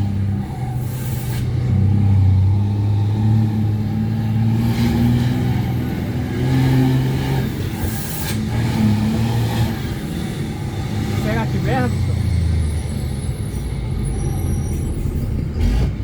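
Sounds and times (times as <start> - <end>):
truck diesel engine revving: 0.0 - 16.0.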